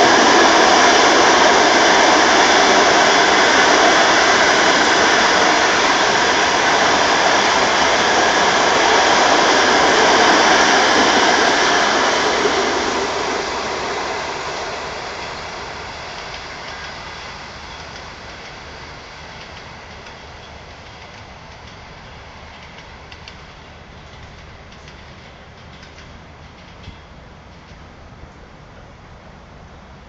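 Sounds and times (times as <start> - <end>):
train wheels rushing on track: 0.0 - 30.0.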